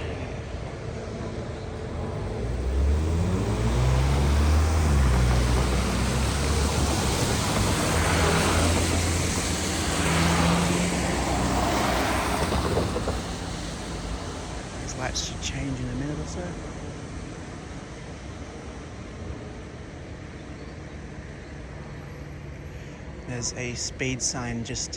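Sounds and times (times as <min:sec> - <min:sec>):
vehicle engine accelerating: 0:00.0 - 0:24.4
tyres hissing on road: 0:00.0 - 0:24.9.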